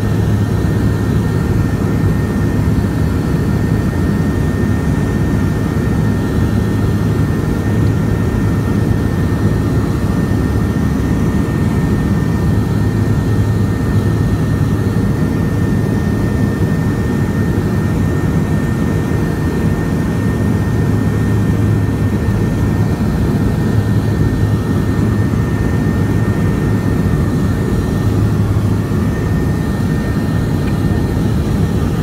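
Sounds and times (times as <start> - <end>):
propeller drone with high whine: 0.0 - 32.0.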